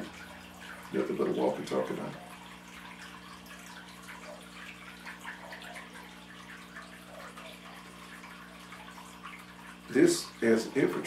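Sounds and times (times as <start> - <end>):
constant hiss: 0.0 - 11.0
low electrical hum: 0.0 - 11.0.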